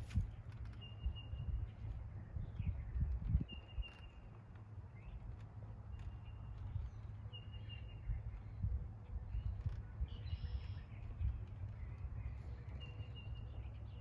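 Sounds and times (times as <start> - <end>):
bird chirping: 0.2 - 14.0.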